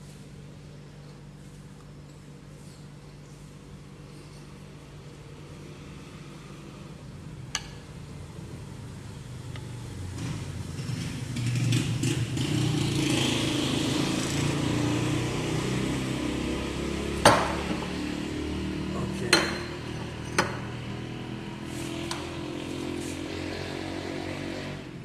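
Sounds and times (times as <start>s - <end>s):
low engine-like hum: 0.0s - 12.4s, 13.6s - 25.0s.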